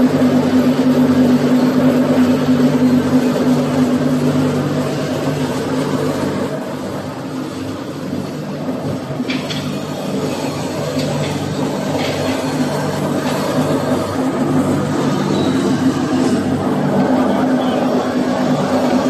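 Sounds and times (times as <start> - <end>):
machine motor hum: 0.0 - 19.0.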